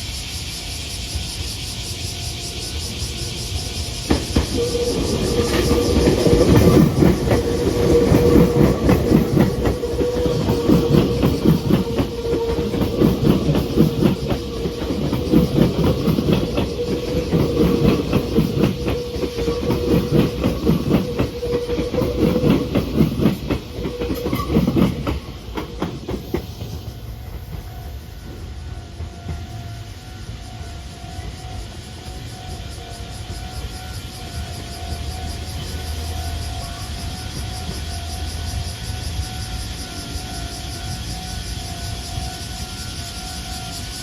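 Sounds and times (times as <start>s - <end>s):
electric train passing: 0.0s - 44.0s
train wheels clattering: 0.0s - 44.0s.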